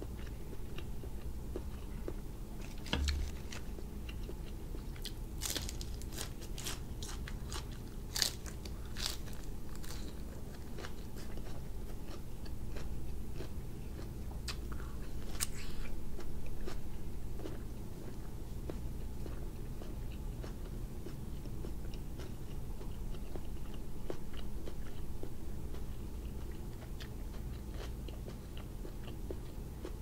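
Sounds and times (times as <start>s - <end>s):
person chewing and crunching: 0.0s - 30.0s.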